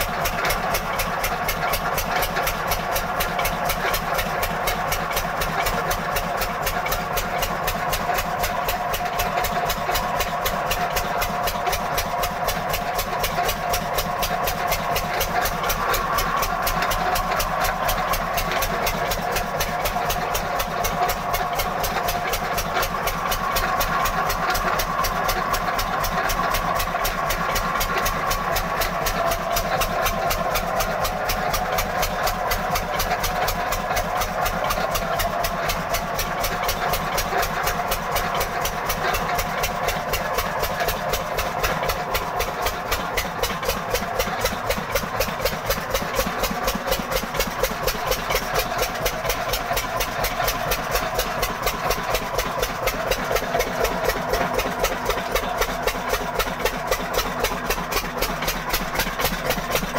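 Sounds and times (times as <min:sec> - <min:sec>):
old engine running: 0:00.0 - 0:59.9.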